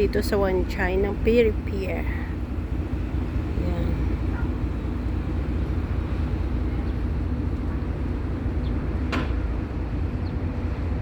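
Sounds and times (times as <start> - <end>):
ferry engine rumbling: 0.0 - 11.0.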